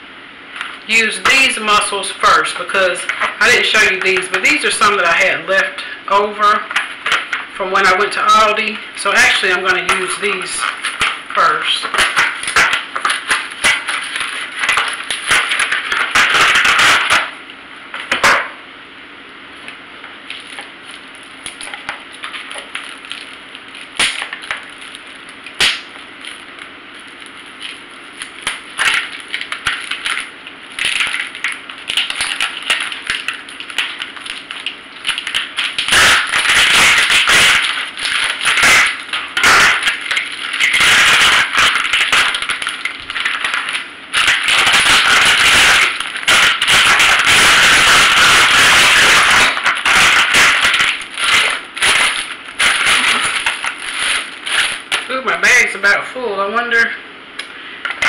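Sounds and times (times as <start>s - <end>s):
plastic packaging crinkling: 0.4s - 5.2s, 5.8s - 18.6s, 19.6s - 55.8s.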